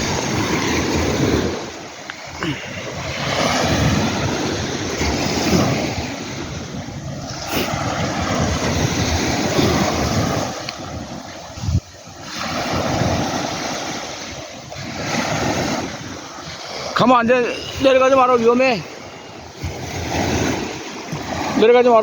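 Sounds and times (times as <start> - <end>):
waves breaking on shore: 0.0 - 22.0
wind buffeting microphone: 0.0 - 22.0.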